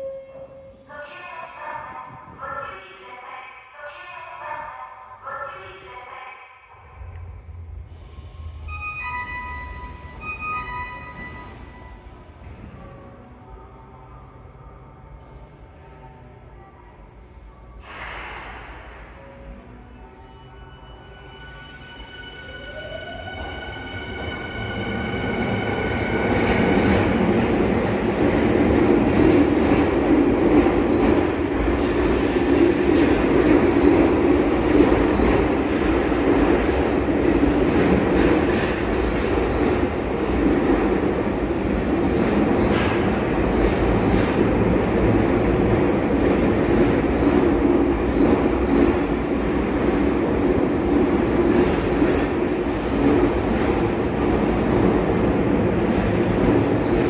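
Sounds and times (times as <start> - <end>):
electric train rumbling on rails: 6.8 - 16.6, 17.2 - 57.0.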